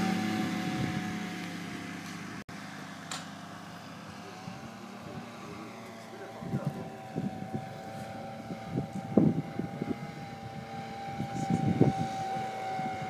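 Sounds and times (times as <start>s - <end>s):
low rumbles: 0.0s - 13.0s
model plane engine droning: 0.0s - 13.0s.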